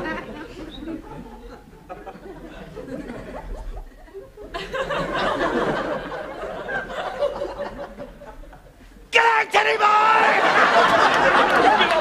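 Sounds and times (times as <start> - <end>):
audience laughter: 0.0 - 8.9, 10.1 - 12.0.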